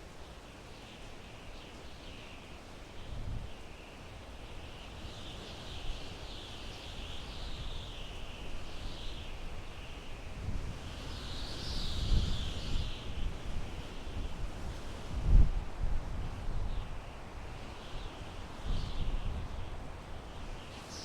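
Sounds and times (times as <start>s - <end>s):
wind through pine trees: 0.0s - 21.0s.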